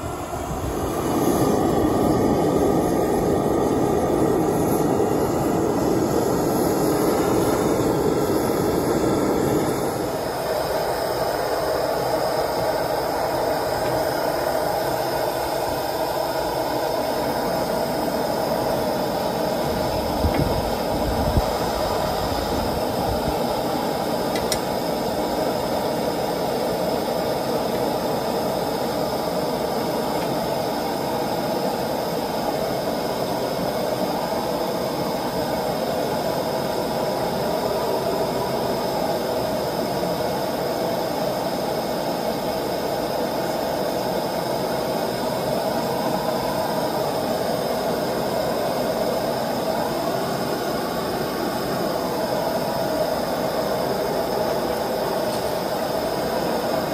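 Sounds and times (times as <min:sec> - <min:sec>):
gas burner rushing: 0:00.0 - 0:56.9.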